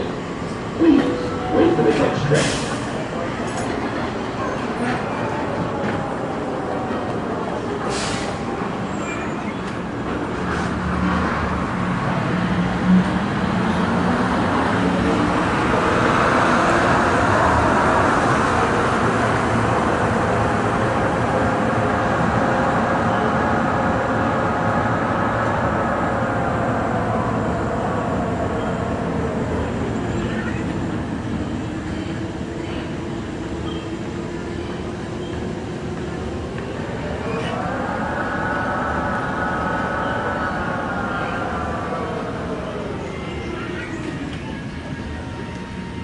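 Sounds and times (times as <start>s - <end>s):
tram rolling rumble: 0.0s - 46.0s
electric tram drive whine: 8.4s - 46.0s.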